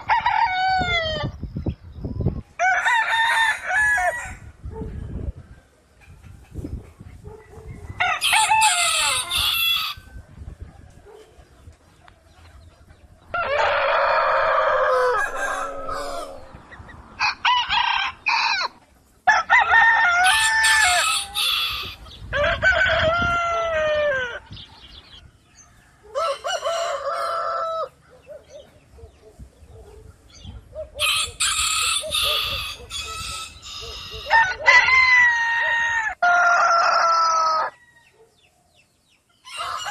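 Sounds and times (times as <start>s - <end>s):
roosters crowing: 0.0s - 1.4s, 2.4s - 5.1s, 7.3s - 11.6s, 13.2s - 29.5s, 30.7s - 38.8s, 39.4s - 39.9s.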